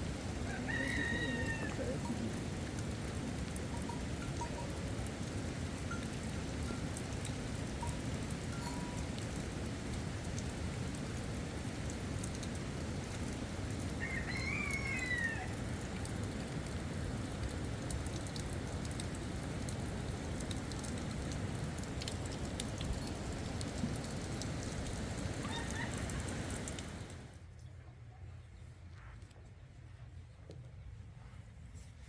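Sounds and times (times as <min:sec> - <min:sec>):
rain falling: 0:00.0 - 0:27.5.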